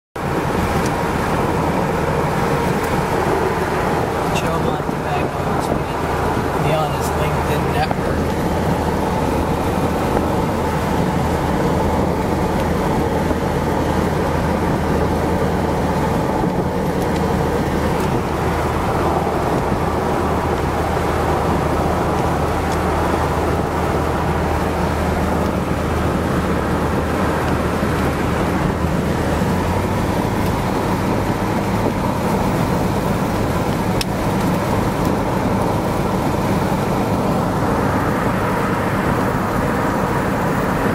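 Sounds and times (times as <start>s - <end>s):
car engine drone: 0.2s - 40.9s
road noise: 0.2s - 40.9s
wind noise: 0.2s - 40.9s.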